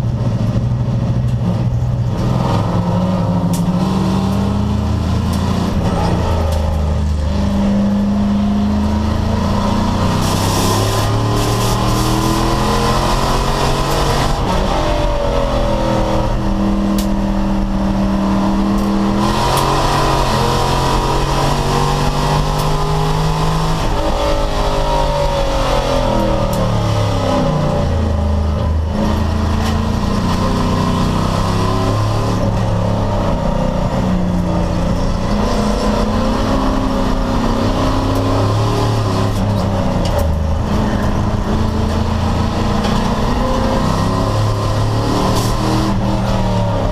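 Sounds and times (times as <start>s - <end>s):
race car engine shifting gears: 0.0s - 46.9s.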